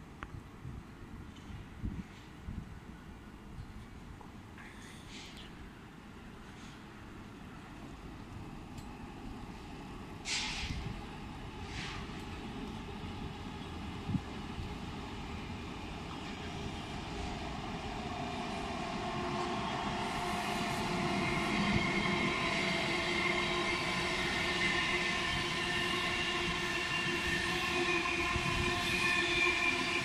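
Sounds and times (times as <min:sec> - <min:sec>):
train rolling rumble: 0:01.2 - 0:30.0.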